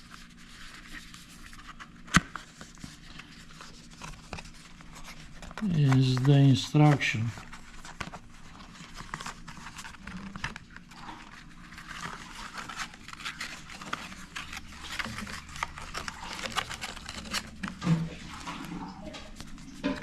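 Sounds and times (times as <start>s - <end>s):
paper rustling: 0.0s - 20.0s
light clicks of packaging: 1.0s - 17.9s.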